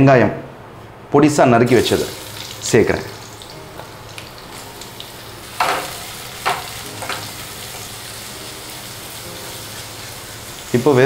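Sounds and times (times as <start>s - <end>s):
onions sizzling in oil: 1.7s - 11.0s.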